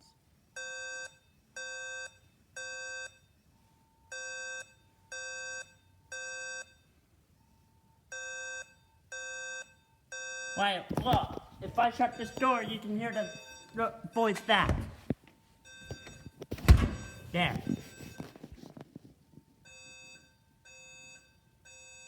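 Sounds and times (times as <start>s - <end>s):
fire alarm beeps: 0.0s - 18.8s, 19.4s - 22.0s.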